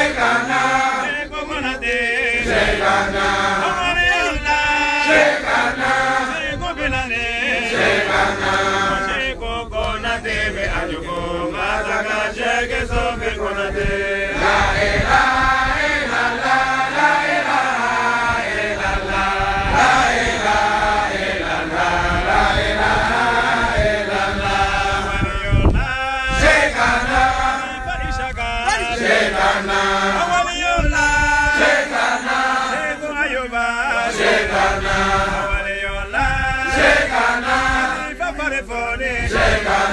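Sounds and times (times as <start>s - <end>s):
men chanting devotional recitation: 0.0s - 39.9s.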